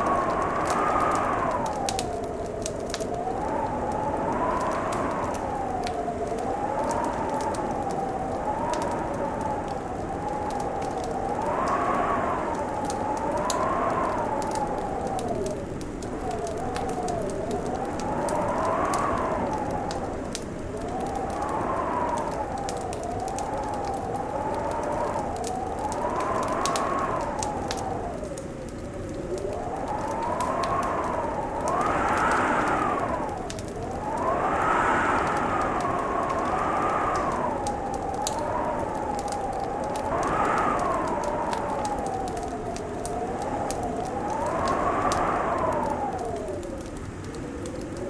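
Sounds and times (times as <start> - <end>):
howling wind: 0.0 - 48.0
wood fire crackling and popping: 0.0 - 48.0.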